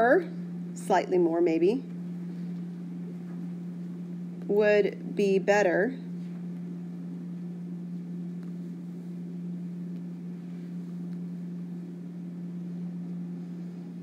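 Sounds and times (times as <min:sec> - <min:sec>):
low equipment hum: 0:00.0 - 0:14.0.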